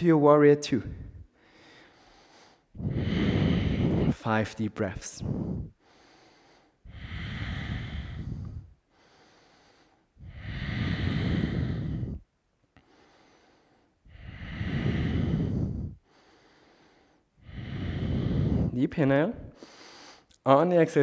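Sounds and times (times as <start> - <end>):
man breathing deeply: 0.8 - 20.4.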